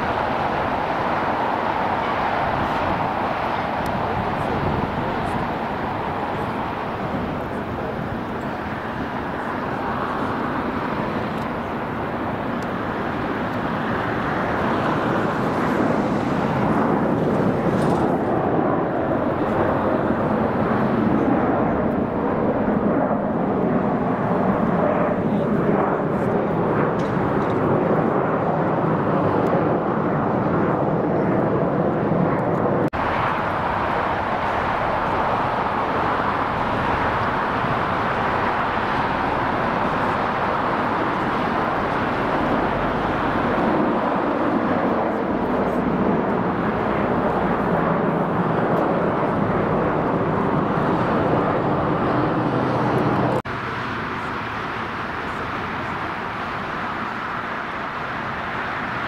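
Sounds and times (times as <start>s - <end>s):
jet roar: 0.0s - 59.0s.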